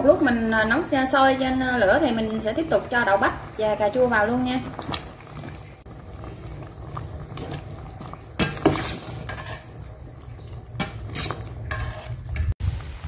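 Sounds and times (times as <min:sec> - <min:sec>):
soup simmering in a pot: 0:00.0 - 0:13.0.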